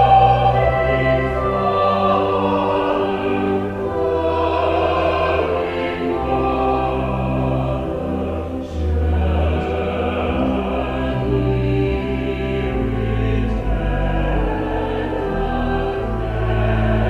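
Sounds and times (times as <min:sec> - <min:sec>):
sustained low held notes: 0:00.0 - 0:17.0
vocal quartet singing a carol: 0:00.0 - 0:17.0.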